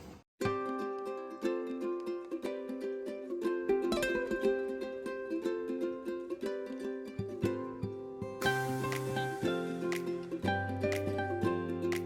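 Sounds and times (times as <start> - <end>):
plucked ukulele tune: 0.4 - 12.0.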